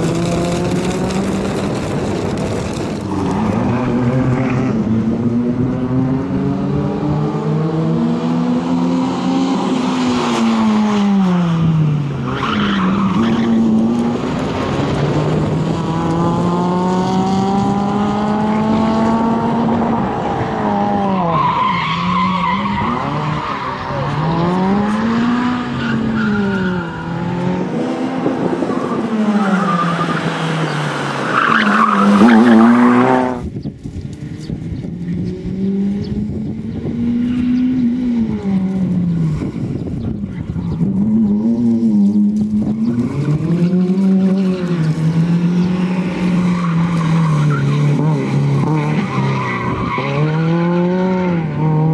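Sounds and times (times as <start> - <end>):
rally car engine revving: 0.0 - 33.6, 34.2 - 51.9.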